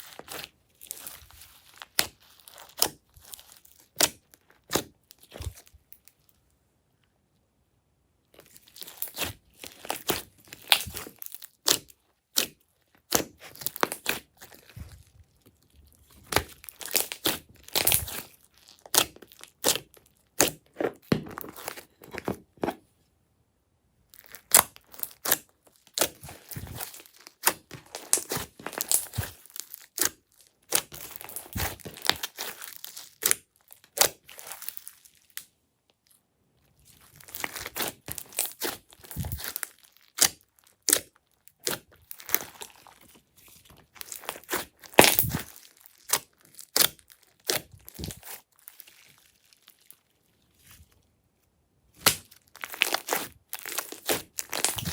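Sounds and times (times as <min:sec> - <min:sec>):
slime squished by hand: 0:00.0 - 0:05.7, 0:08.4 - 0:22.8, 0:24.1 - 0:35.4, 0:36.9 - 0:50.8, 0:51.9 - 0:54.9.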